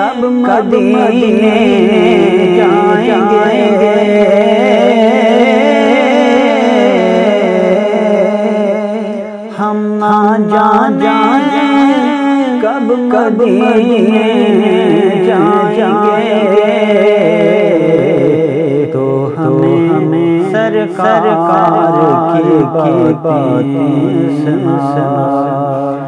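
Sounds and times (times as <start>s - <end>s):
man singing devotional song: 0.0s - 26.0s.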